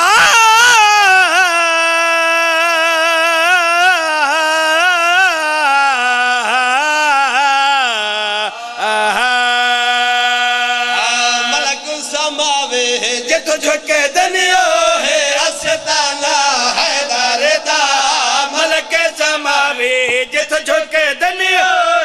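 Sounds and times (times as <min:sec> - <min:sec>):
man chanting a lament: 0:00.0 - 0:22.0.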